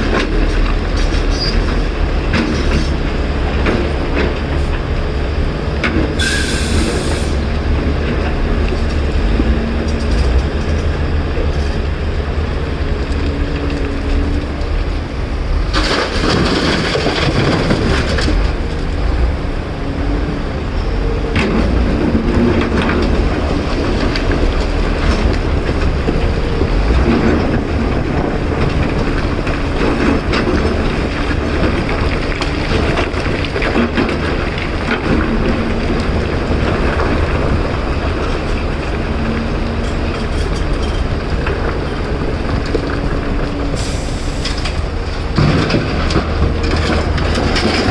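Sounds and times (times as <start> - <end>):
excavator diesel engine rumbling: 0.0 - 47.9.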